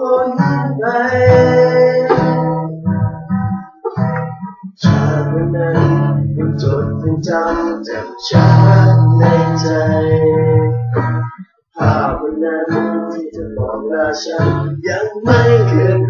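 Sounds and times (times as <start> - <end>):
men singing pop song: 0.0 - 2.7, 4.8 - 16.0
acoustic guitar strumming: 0.0 - 16.0.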